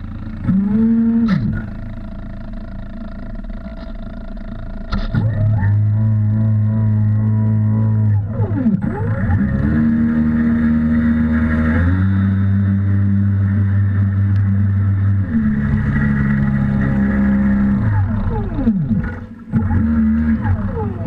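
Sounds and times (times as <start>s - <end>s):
model boat motors running: 0.0s - 21.0s.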